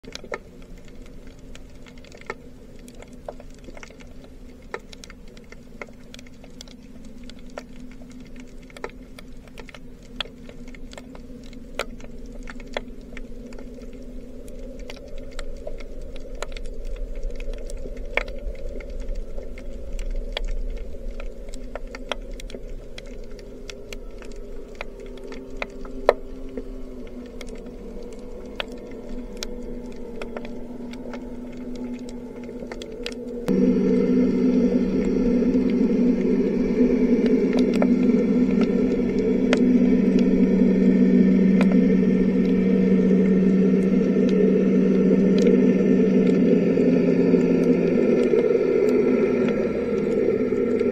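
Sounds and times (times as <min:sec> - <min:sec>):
deep underwater rumble: 0:00.0 - 0:50.9
low underwater hum: 0:00.0 - 0:50.9.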